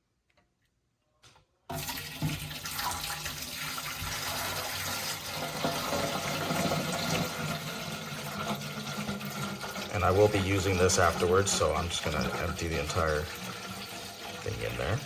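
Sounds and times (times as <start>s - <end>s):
water pouring into a tank: 1.7s - 15.0s.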